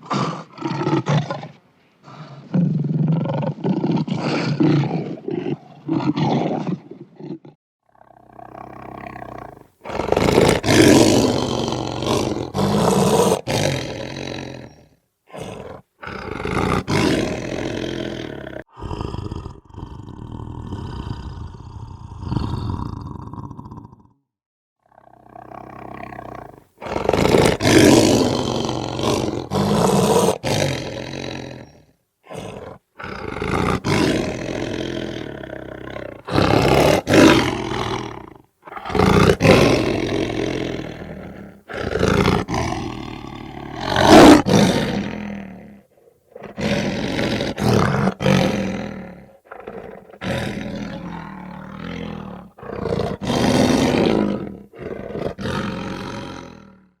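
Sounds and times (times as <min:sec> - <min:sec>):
lion growling and roaring: 0:00.0 - 0:24.2, 0:24.9 - 0:57.0.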